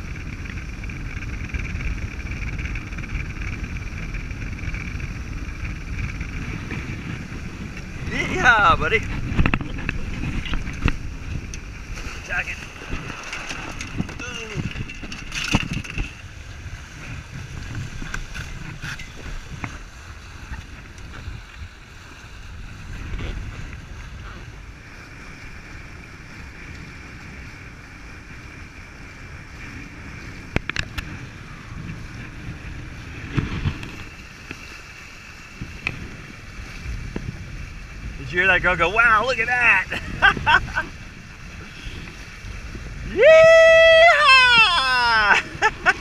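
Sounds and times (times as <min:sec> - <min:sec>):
water rushing past hull: 0:00.0 - 0:46.0
wind buffeting microphone: 0:00.0 - 0:46.0.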